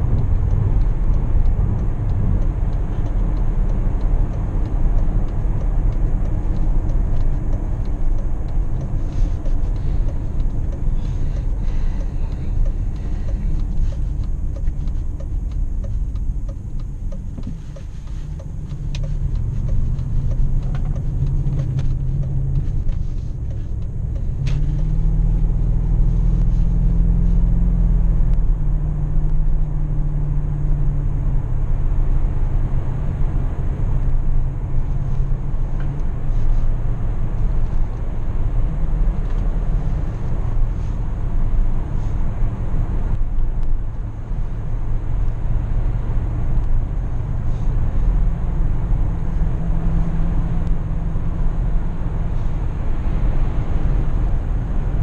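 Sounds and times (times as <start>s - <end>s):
car engine accelerating: 0.0s - 55.0s
road noise: 0.0s - 55.0s.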